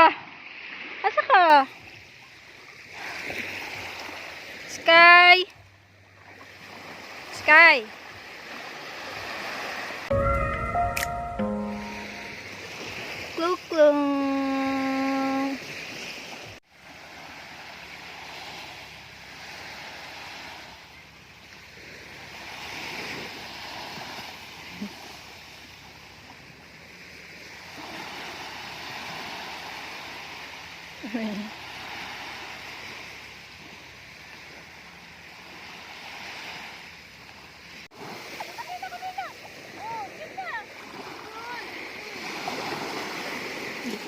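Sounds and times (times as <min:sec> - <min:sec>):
surf washing on beach: 0:00.0 - 0:44.0.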